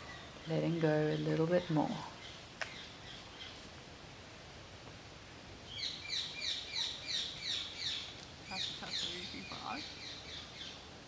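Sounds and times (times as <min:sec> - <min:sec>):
woodland background noise: 0:00.0 - 0:11.0.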